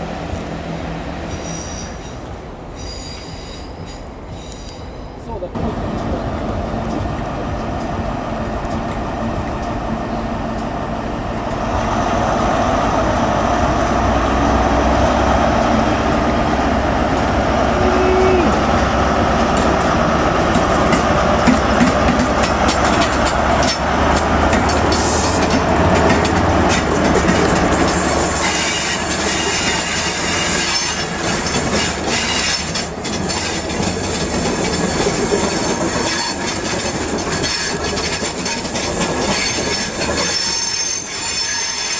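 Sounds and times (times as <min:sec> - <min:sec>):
carriages rumbling on rails: 0:00.0 - 0:41.9
wheel-on-rail noise with clicks: 0:01.3 - 0:12.4, 0:13.3 - 0:17.5, 0:18.4 - 0:41.9.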